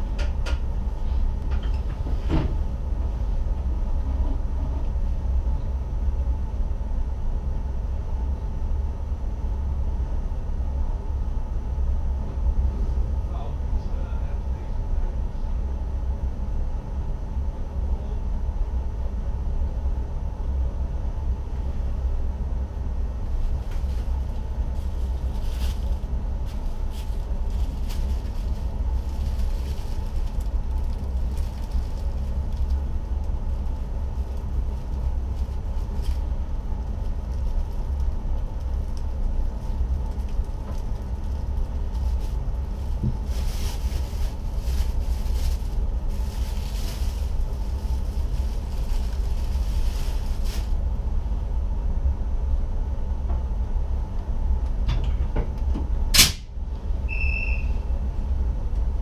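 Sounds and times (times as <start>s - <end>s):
train cab rumble and hum: 0.0s - 59.0s.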